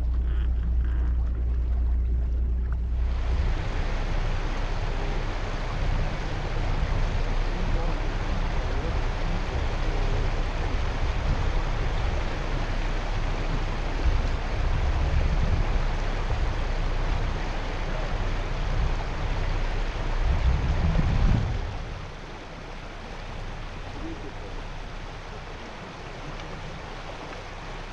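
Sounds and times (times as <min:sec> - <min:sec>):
yacht moving through water: 0:00.0 - 0:27.9.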